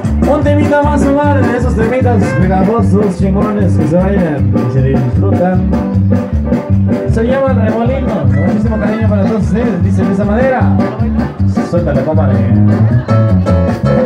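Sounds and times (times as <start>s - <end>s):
live band playing latin dance music: 0.0s - 14.0s.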